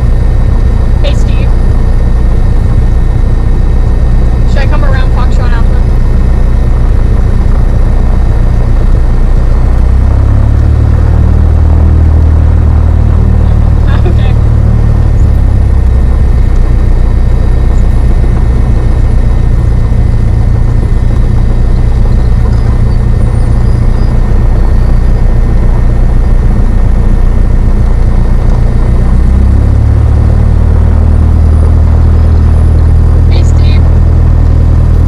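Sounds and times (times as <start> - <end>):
light aircraft engine droning: 0.0 - 35.0.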